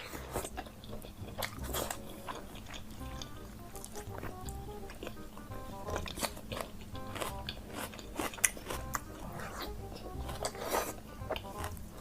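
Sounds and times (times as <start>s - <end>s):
background music: 0.0s - 12.0s
crunchy biting and chewing: 0.0s - 12.0s.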